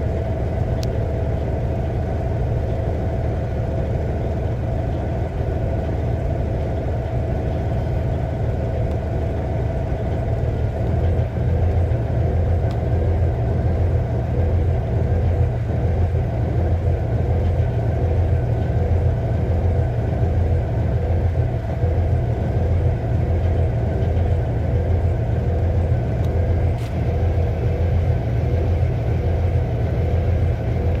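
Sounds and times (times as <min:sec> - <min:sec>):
diesel engine idling roughly: 0:00.0 - 0:31.0.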